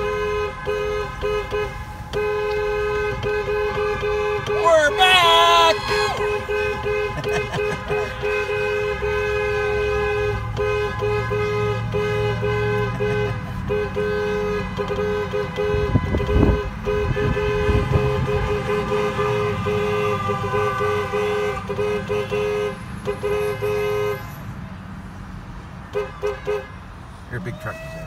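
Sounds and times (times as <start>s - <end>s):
car horn honking: 0.0s - 24.4s, 25.8s - 28.0s
car hum in motion: 0.0s - 28.0s.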